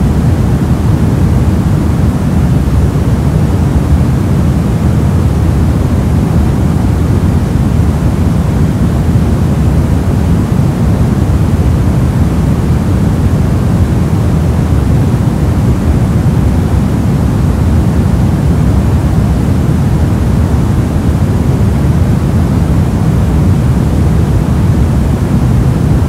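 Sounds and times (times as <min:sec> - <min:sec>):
low soft static noise: 0:00.0 - 0:26.0.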